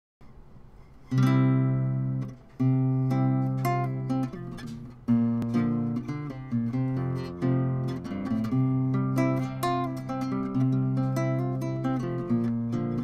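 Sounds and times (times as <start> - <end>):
fingerpicked guitar chords ringing: 1.0 - 13.0
single picked guitar notes: 1.1 - 13.0.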